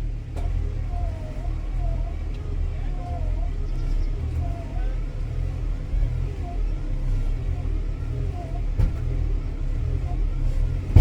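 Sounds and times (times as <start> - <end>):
tractor engine rumbling: 0.0 - 11.0.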